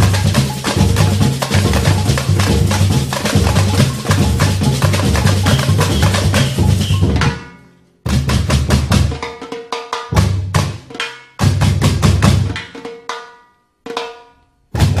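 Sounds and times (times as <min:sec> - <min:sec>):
music with heavy drum beat: 0:00.0 - 0:13.3, 0:14.8 - 0:15.0.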